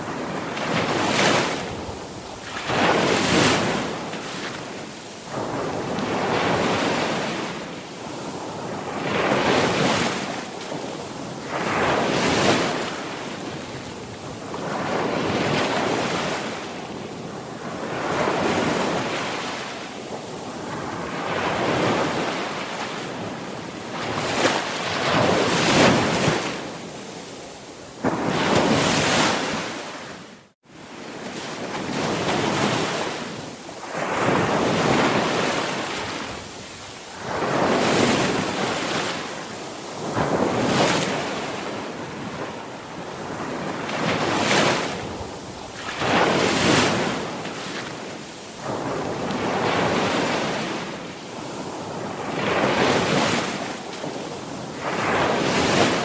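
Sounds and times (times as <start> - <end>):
sea waves breaking: 0.0 - 16.7, 17.6 - 56.0.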